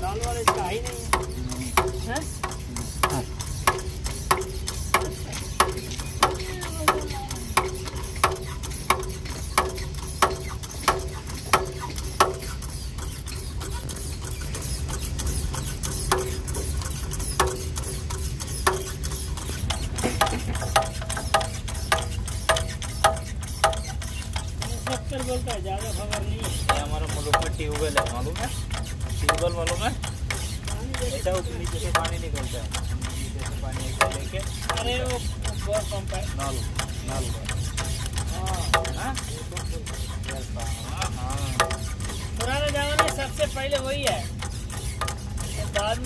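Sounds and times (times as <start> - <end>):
hand pump mechanical clicks: 0.0 - 46.0.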